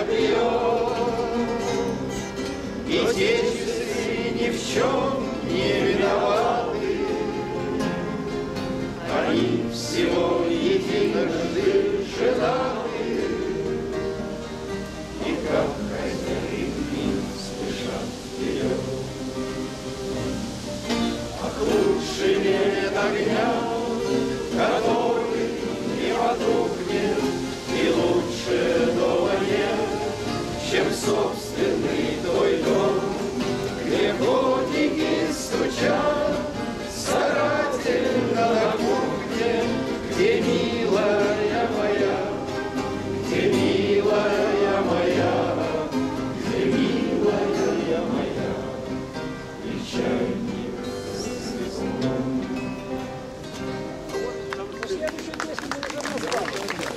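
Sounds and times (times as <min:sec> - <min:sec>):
group singing in chorus: 0:00.0 - 0:53.4
acoustic guitars strummed: 0:00.0 - 0:55.5.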